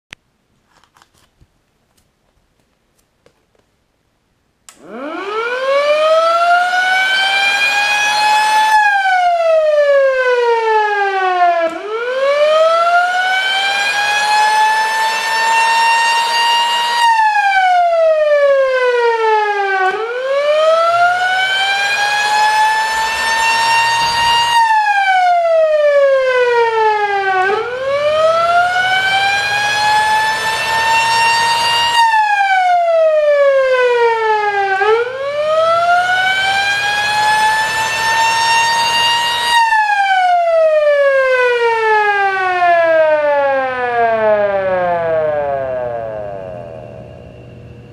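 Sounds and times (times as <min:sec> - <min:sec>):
siren winding up and down: 0:04.7 - 0:47.9.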